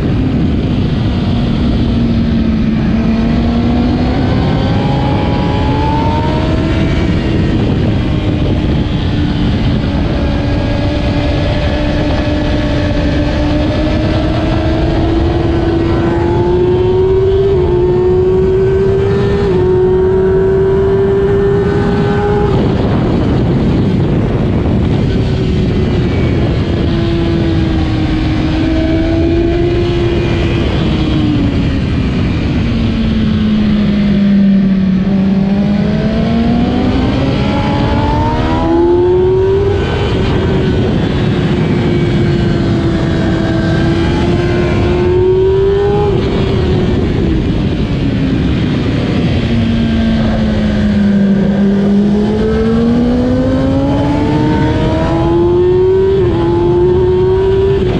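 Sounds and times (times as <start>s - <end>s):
motorcycle engine at racing speed: 0.0s - 57.9s.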